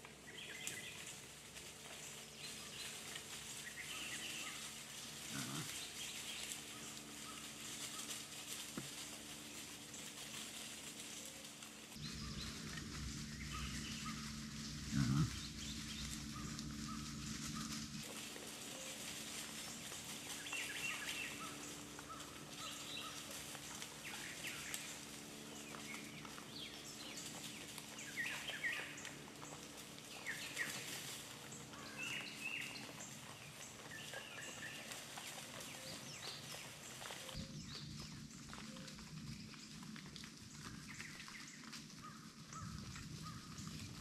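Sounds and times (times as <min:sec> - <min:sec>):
birds chirping: 0:00.0 - 0:44.0
hogs rooting through dry leaves: 0:00.0 - 0:44.0.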